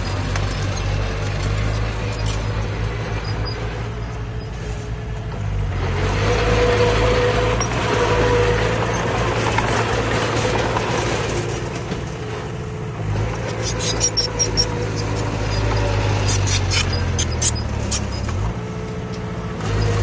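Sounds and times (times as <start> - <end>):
diesel earthmoving machinery running: 0.0 - 20.0.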